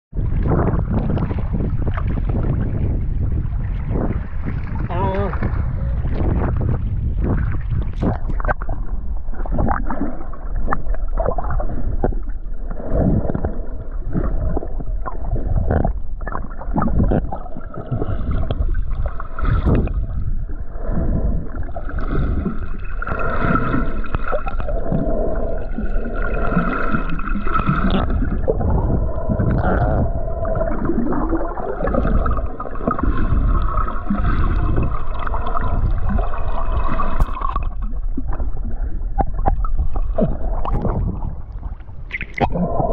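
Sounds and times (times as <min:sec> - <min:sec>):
low rumble: 0:00.1 - 0:42.9
muffled water gurgling underwater: 0:00.1 - 0:42.9.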